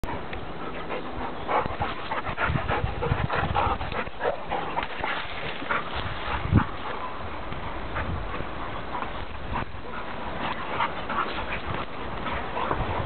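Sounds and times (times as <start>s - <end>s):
dogs panting: 0.0s - 13.0s.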